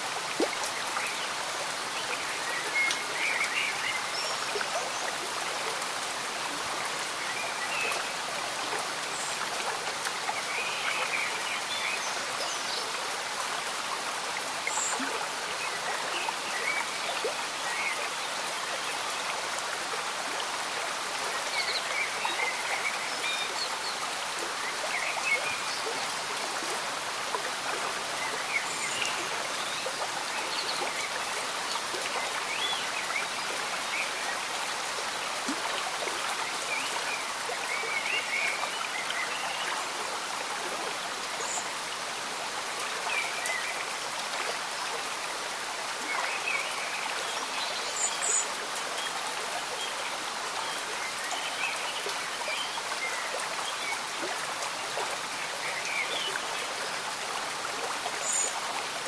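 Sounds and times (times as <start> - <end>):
gentle rain: 0.0 - 59.0.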